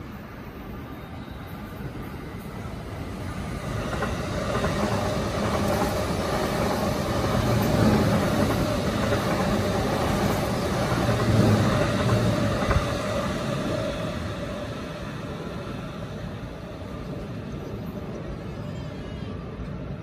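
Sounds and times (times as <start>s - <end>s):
train wheels rumbling on rails: 1.4s - 20.0s.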